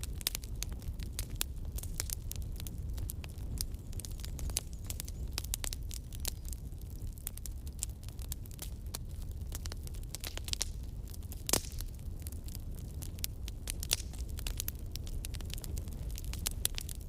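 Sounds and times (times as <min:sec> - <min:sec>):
campfire crackles and pops: 0:00.0 - 0:17.0
low rumble of flames: 0:00.0 - 0:17.0.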